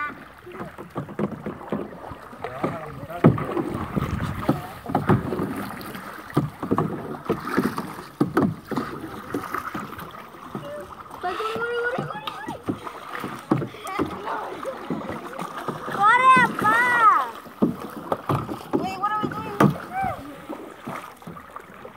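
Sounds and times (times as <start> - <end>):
canoe paddle strokes splashing: 0.0 - 21.9
paddle knocks: 0.0 - 21.9.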